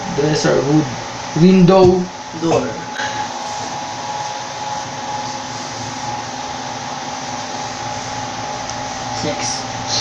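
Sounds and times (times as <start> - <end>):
electric fan whooshing hum: 0.0 - 10.0.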